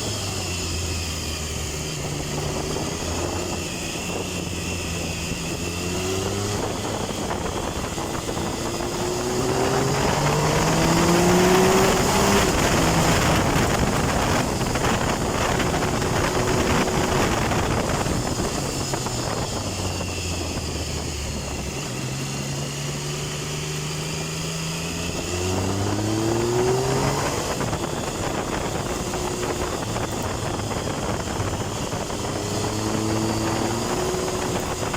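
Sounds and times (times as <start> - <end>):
motorcycle engine pulling hard: 0.0 - 34.9
rush of wind: 0.0 - 34.9.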